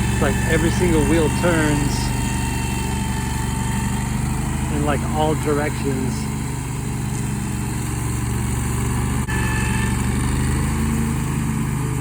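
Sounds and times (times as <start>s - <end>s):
mower engine running: 0.0s - 12.0s.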